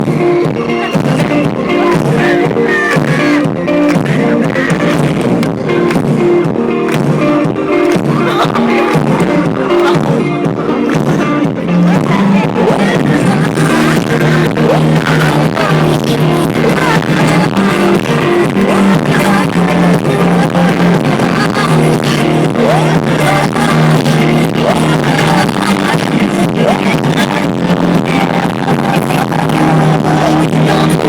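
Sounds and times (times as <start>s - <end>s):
live pop band playing: 0.0s - 31.0s
steady drum beat: 0.0s - 31.0s
sustained low bass notes: 0.0s - 31.0s.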